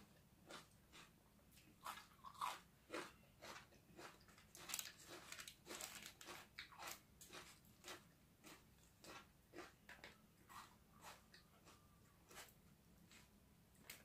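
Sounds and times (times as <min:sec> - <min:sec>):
chewing crunchy food: 0:00.4 - 0:14.0.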